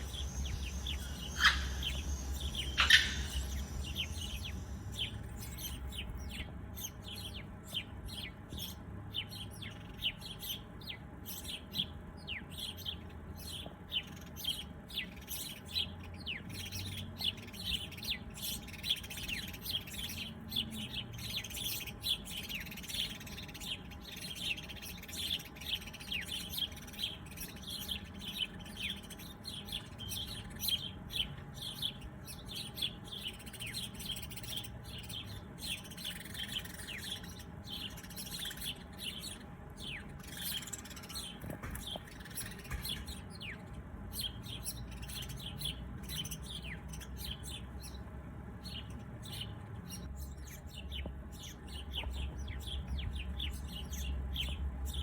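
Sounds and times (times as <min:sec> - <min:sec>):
loud sharp bird calls: 0:00.0 - 0:55.0
small birds chirping: 0:00.0 - 0:55.0.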